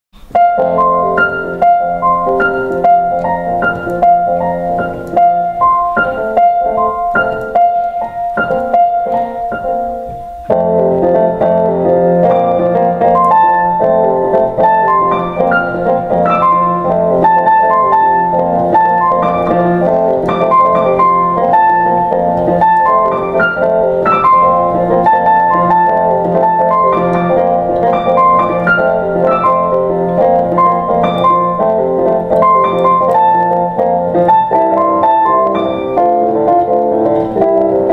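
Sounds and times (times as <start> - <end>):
piano music: 0.2 - 37.9.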